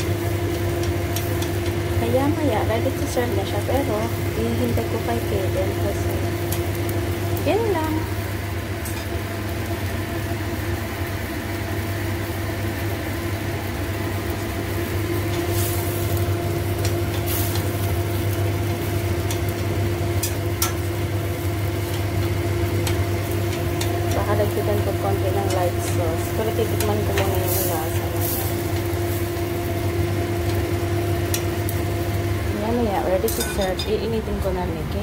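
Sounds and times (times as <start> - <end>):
pan of food bubbling: 0.0 - 32.7
steady machine hum: 0.0 - 35.0.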